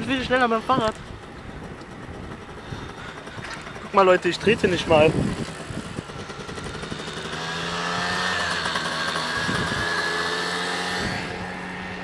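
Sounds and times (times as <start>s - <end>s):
moped engine buzzing: 0.0s - 12.0s
road and wind rush: 0.0s - 12.0s.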